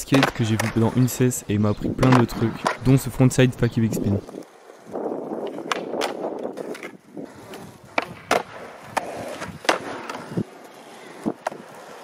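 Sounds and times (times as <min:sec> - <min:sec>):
skateboard wheels rolling on asphalt: 0:00.0 - 0:12.0
skateboard deck clacks: 0:00.1 - 0:01.1, 0:02.0 - 0:03.1, 0:04.3 - 0:12.0.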